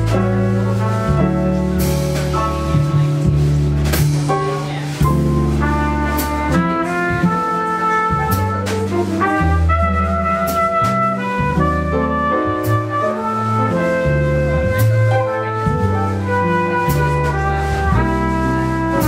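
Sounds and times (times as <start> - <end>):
drums: 0.0 - 19.0
plucked double bass: 0.0 - 19.0
trumpet melody: 0.0 - 19.0.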